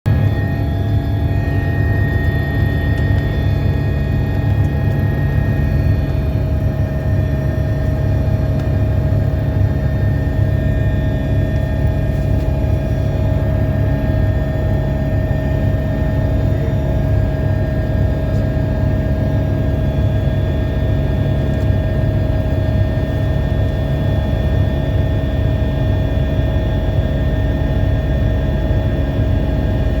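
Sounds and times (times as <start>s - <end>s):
helicopter rotor rumble: 0.0s - 30.0s
helicopter turbine whine: 0.1s - 30.0s.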